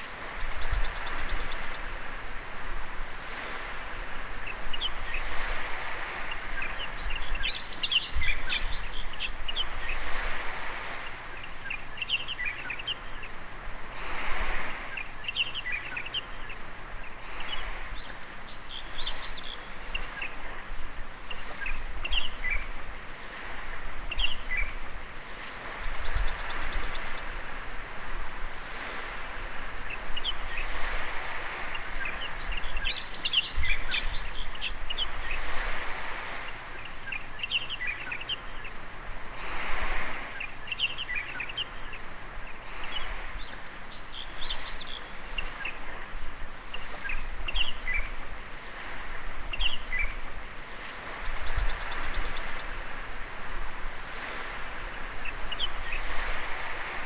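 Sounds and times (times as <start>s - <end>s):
small birds chirping: 0.0s - 2.2s, 3.4s - 13.5s, 14.7s - 27.7s, 28.7s - 38.9s, 39.8s - 53.3s, 53.9s - 57.0s
waves washing on a beach: 0.0s - 57.0s.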